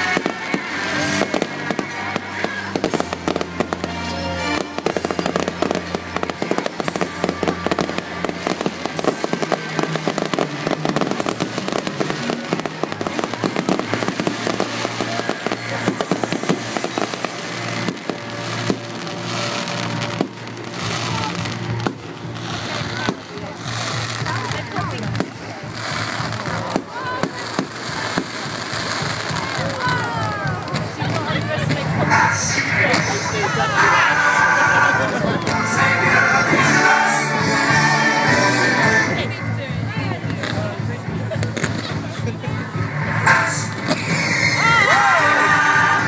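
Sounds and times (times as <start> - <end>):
fireworks bangs: 0.0 - 39.6, 40.2 - 46.0
fireworks crackling and popping: 0.0 - 46.0
loud music: 0.0 - 46.0.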